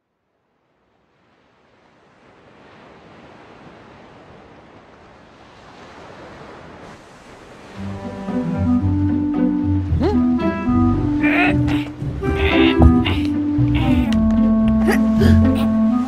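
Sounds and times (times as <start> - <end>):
ocean waves washing: 0.5 - 16.0.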